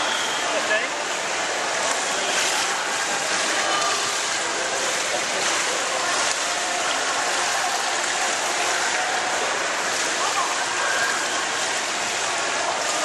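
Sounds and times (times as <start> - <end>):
water lapping at pool wall: 0.0 - 13.0
water running into gutter: 0.0 - 13.0.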